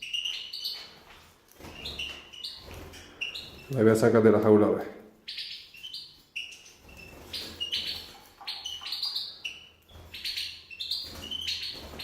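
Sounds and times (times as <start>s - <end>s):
goldfinch peeping: 0.0s - 4.2s, 5.2s - 12.0s.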